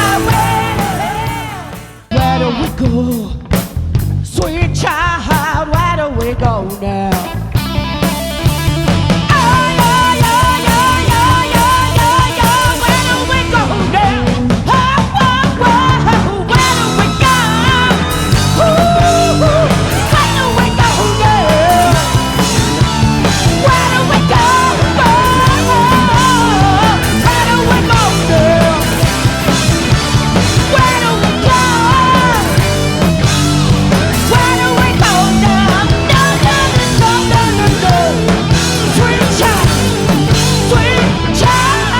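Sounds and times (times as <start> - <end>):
melodic lead line: 0.0 - 2.9, 7.7 - 13.9, 16.1 - 41.9
live rock band playing: 0.0 - 41.9.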